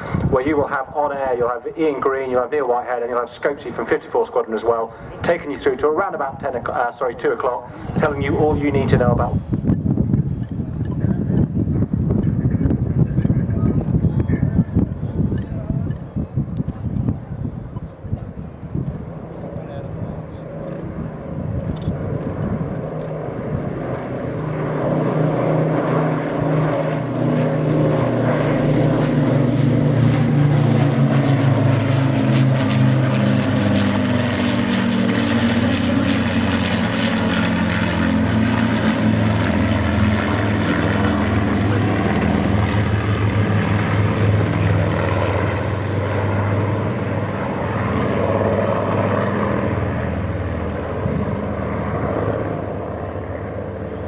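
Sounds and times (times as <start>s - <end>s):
propeller aircraft engine drone: 0.0s - 54.0s.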